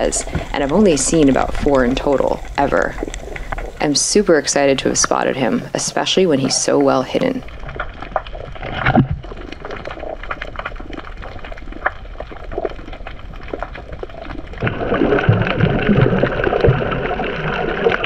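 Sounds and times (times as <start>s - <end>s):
underwater bubbling and clicks: 0.0s - 18.0s
water gurgling: 0.0s - 18.0s.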